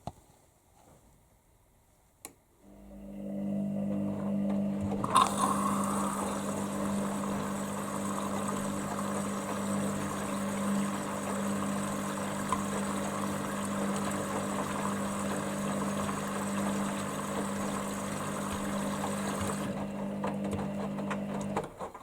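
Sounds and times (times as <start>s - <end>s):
washing machine hum: 2.6s - 22.0s.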